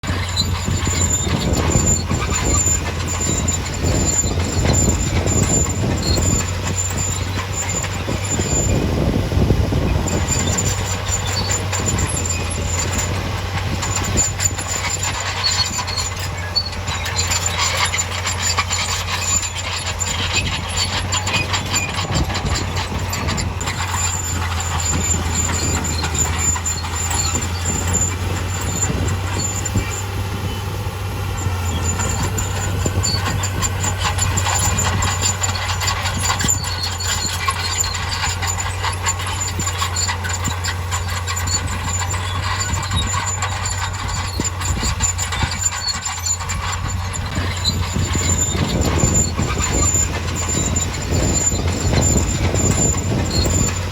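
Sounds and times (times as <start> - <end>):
diesel engine running: 0.0 - 53.9
metallic clanking and rattling: 0.0 - 53.9.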